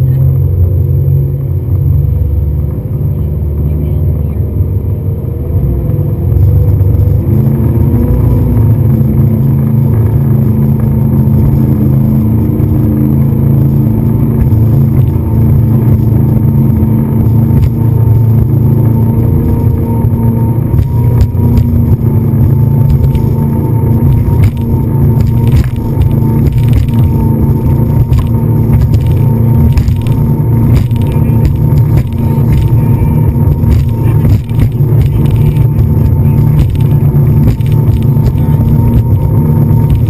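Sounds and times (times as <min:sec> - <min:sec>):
motorboat engine running: 0:00.0 - 0:40.0.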